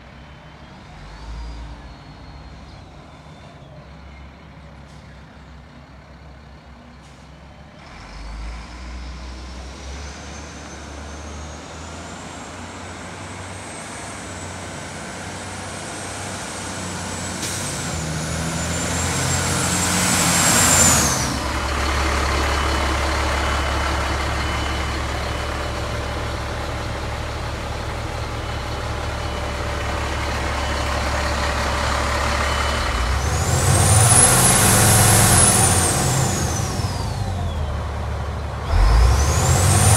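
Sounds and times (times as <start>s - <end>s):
truck diesel engine: 0.0s - 39.9s.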